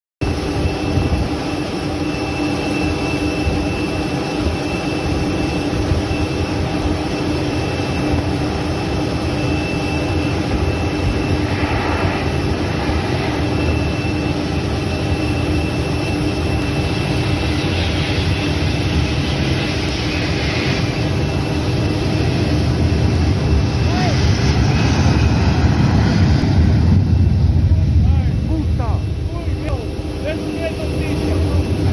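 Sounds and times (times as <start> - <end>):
jet aircraft droning: 0.2 - 31.9
jet aircraft landing rush: 0.2 - 31.9.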